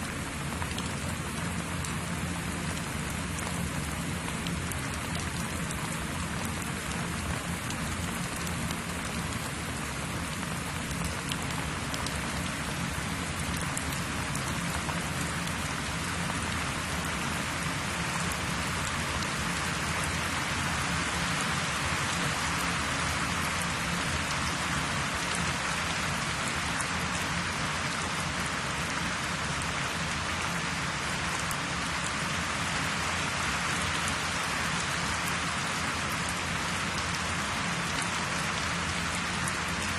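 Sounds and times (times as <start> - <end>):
low steady hum: 0.0 - 39.9
rain-like hiss with pattering: 0.0 - 39.9.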